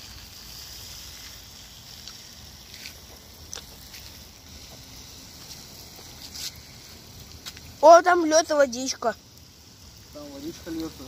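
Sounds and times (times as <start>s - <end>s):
sprinkler water spraying hiss: 0.0s - 11.0s.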